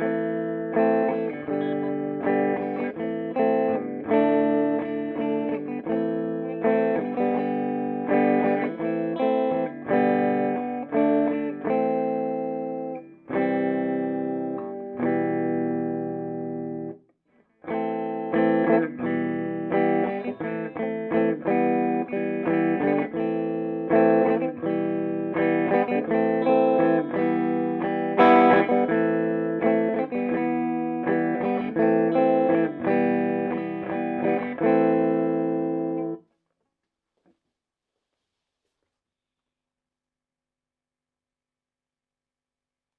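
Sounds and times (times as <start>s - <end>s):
electric guitar chords and notes: 0.0s - 17.0s, 17.7s - 36.2s.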